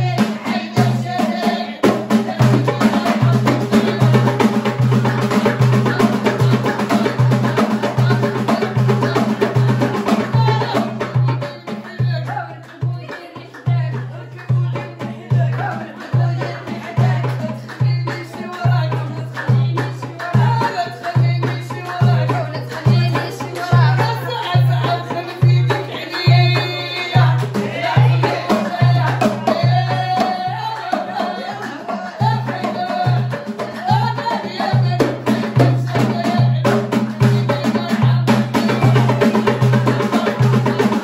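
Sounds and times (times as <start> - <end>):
person singing: 0.0 - 41.0.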